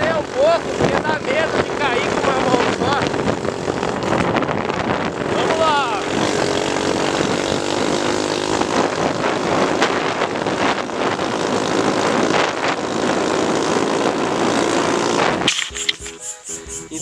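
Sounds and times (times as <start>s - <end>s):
motorcycle engine running: 0.0s - 16.8s
wind rushing on microphone: 0.0s - 17.0s.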